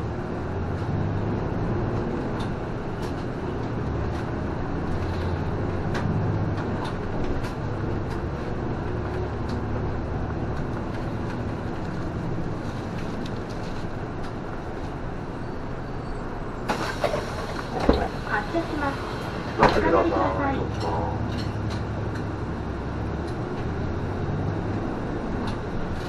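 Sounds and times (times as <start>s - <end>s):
bus engine hum: 0.0s - 26.0s
road noise: 0.0s - 26.0s.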